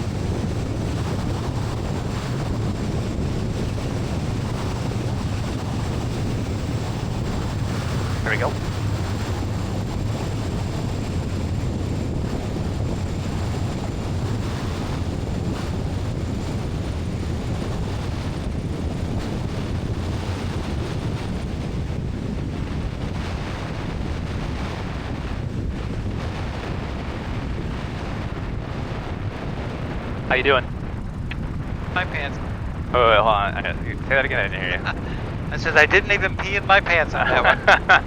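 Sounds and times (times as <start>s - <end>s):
light airplane engine: 0.0s - 38.0s.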